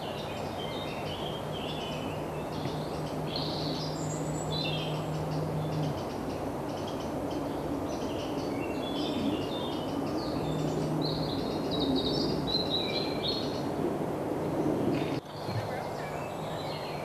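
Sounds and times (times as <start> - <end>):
birds chirping and singing: 0.0 - 13.7, 14.6 - 17.0.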